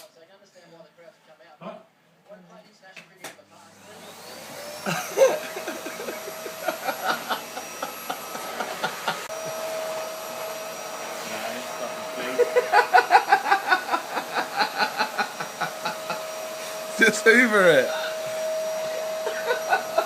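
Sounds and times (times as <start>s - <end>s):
vacuum cleaner whining: 3.4s - 20.0s.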